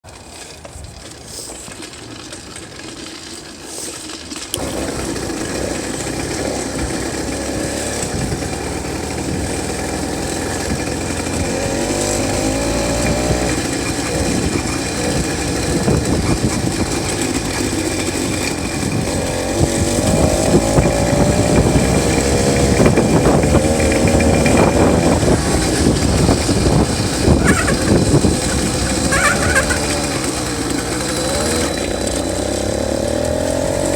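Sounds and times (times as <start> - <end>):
two-stroke engine revving: 4.6 - 33.9.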